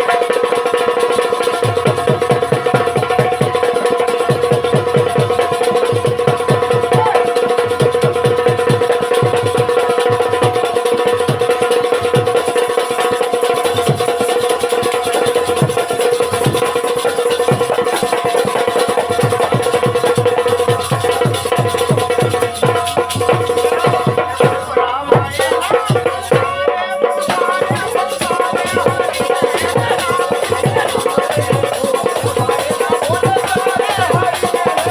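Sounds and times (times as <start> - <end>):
fast drum beats: 0.0 - 34.9.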